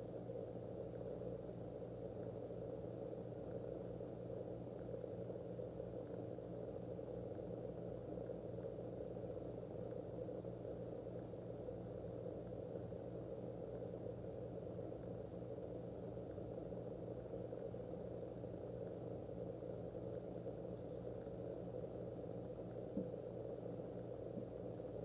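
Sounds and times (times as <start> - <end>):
background hiss: 0.0 - 25.0
low electrical hum: 0.0 - 25.0.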